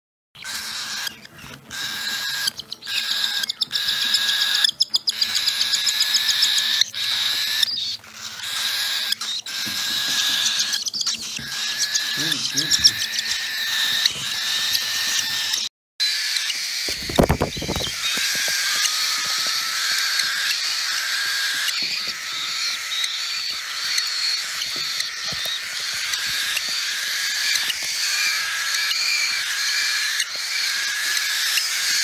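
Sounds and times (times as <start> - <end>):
chicks begging calls: 0.4 - 32.0.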